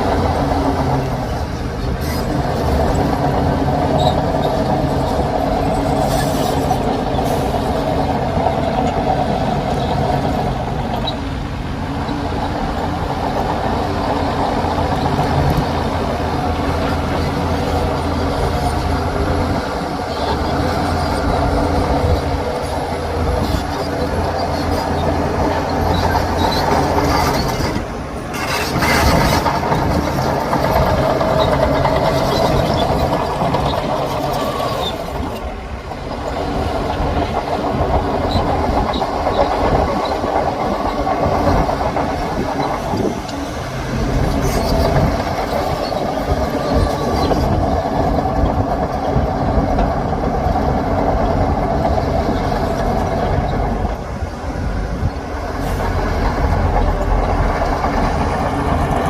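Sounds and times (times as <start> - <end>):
bulldozer diesel engine under load: 0.0 - 59.0
steel tracks clanking: 0.0 - 59.0.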